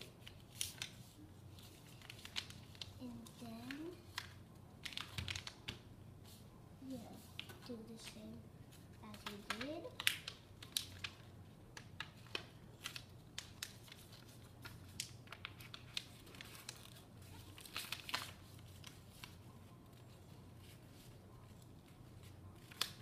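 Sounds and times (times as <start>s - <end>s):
paper folding and creasing: 0.0s - 6.4s, 7.1s - 23.0s.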